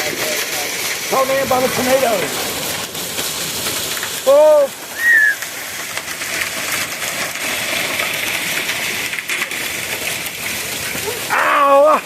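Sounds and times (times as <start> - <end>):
hailstone impacts: 0.0 - 12.0
heavy rain hissing: 0.0 - 12.0.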